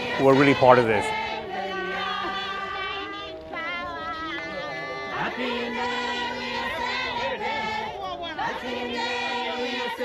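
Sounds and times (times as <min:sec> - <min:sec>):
crowd singing together: 0:00.0 - 0:10.0.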